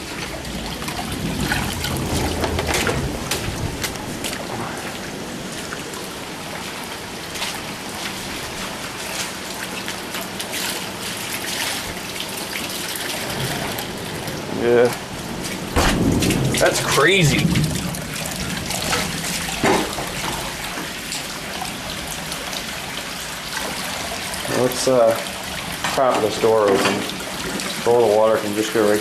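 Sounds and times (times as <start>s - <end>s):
rain falling: 0.0s - 29.0s
water trickling down concrete steps: 0.0s - 29.0s.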